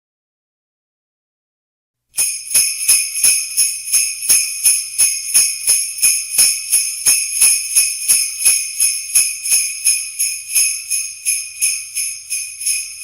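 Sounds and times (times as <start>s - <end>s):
sleigh bells jingling: 2.2s - 13.0s.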